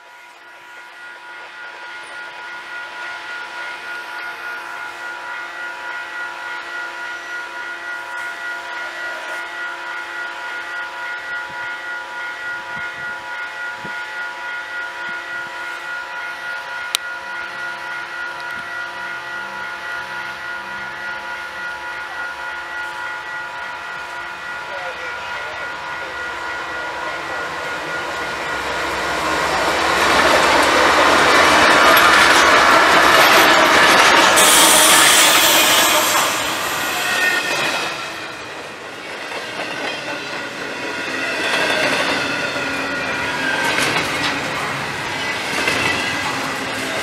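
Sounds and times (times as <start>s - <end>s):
diesel locomotive hum and whine: 0.0s - 47.0s.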